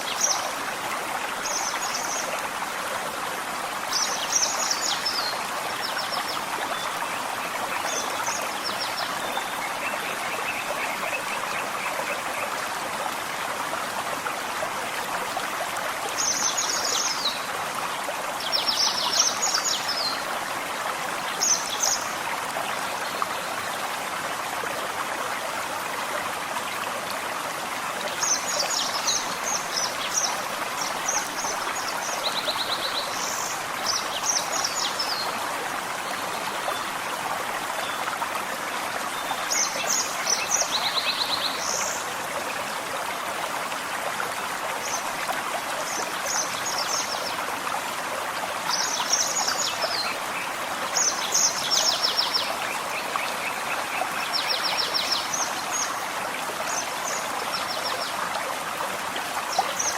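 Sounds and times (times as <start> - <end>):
forest stream running: 0.0 - 59.9.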